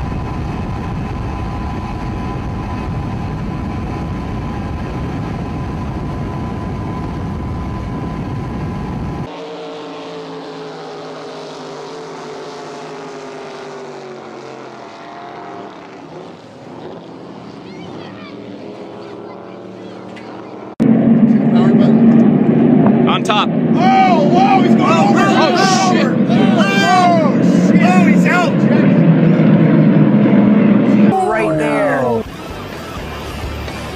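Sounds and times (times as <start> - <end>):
drag boat engine falling pitch: 0.0 - 33.9
racing boat engines rumbling: 0.0 - 33.9.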